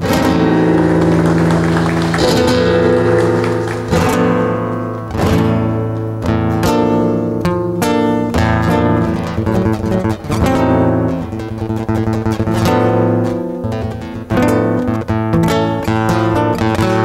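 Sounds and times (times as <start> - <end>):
classical guitar fingerstyle: 0.0 - 17.0.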